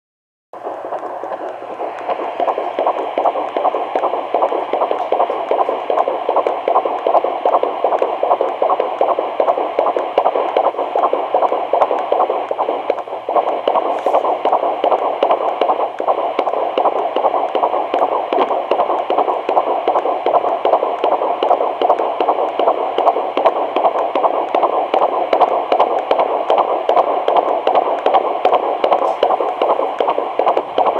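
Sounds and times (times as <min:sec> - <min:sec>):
fetal heartbeat whooshing pulse: 0:00.6 - 0:30.9.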